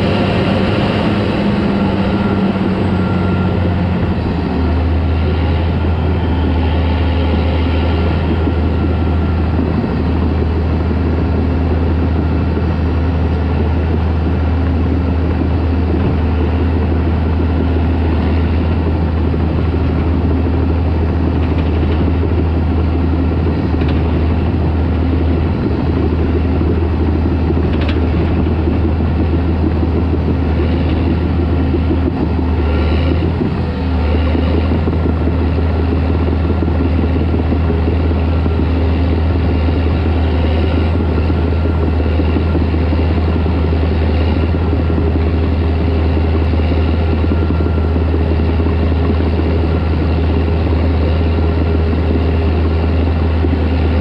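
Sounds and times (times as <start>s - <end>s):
dozer diesel engine droning: 0.0s - 54.0s.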